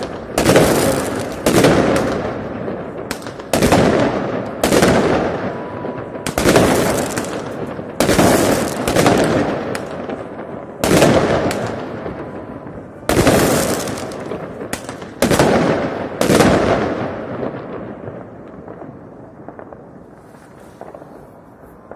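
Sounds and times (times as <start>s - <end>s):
fireworks bursting with echo: 0.0s - 21.9s.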